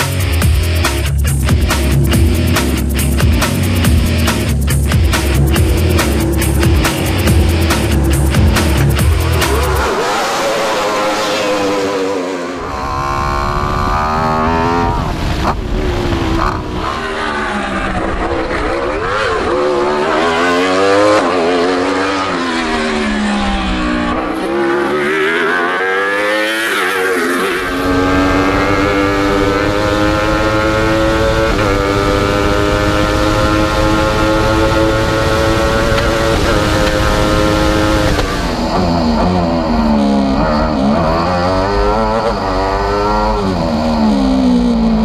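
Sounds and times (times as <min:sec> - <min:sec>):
race car engine revving: 0:00.0 - 0:45.0.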